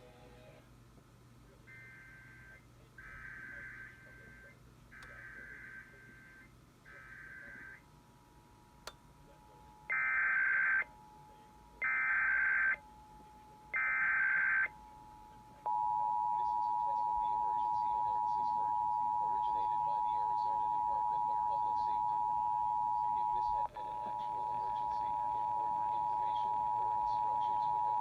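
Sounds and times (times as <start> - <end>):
faint steady tone: 0.0 - 28.0.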